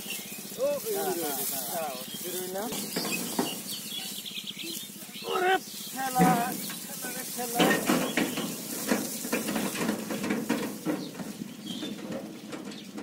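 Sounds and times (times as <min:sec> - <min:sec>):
dry crunching of stubble: 0:00.0 - 0:13.0
metal thresher clattering: 0:00.0 - 0:13.0.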